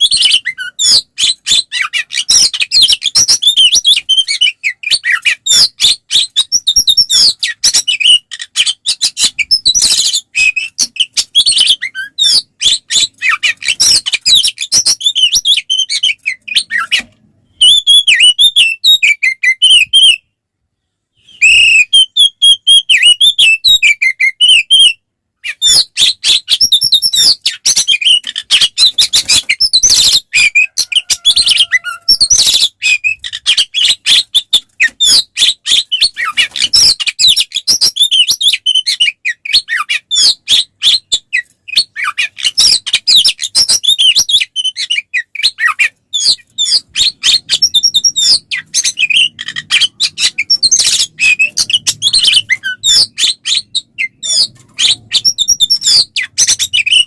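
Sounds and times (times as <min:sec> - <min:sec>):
magpie-robin singing: 0:00.0 - 0:20.3, 0:21.2 - 0:57.0.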